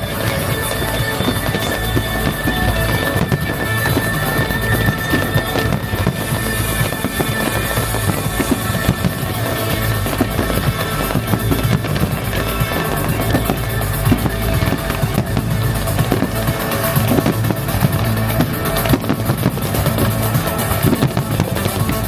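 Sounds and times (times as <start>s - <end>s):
fireworks banging and crackling: 0.0s - 22.0s
fireworks show music: 0.0s - 22.0s.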